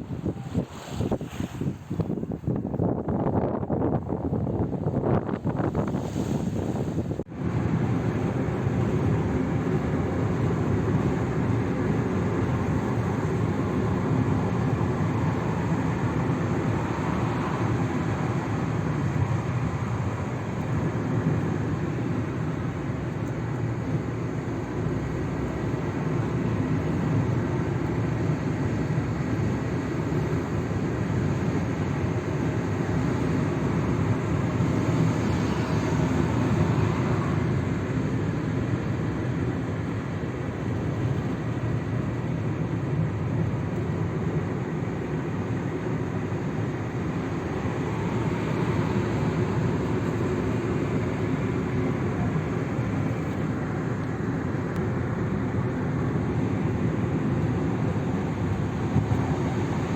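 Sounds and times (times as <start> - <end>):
low mechanical rumble: 6.6 - 59.9.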